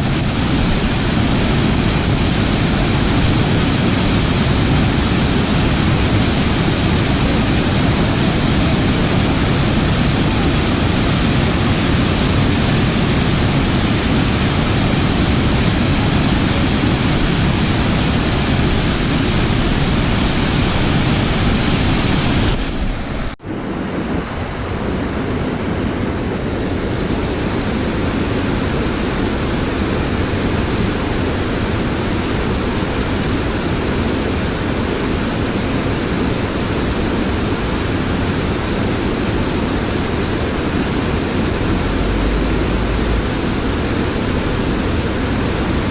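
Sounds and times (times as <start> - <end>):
fast-flowing water rushing: 0.0 - 23.4, 24.0 - 45.9.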